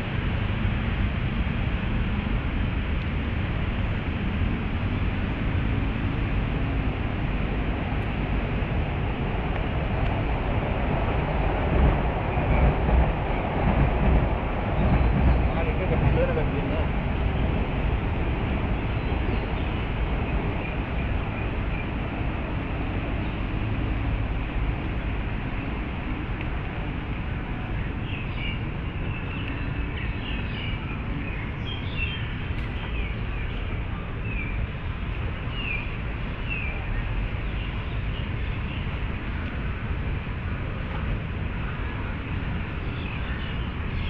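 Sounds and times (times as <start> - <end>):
city traffic rumble: 0.0 - 44.0.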